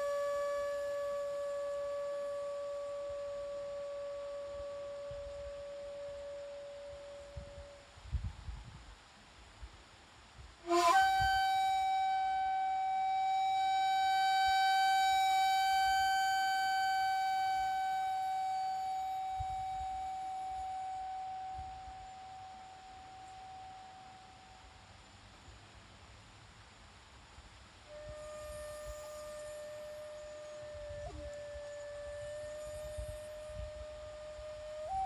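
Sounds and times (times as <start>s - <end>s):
breathy bamboo flute note: 0.0s - 8.3s, 10.6s - 24.8s, 27.8s - 35.0s.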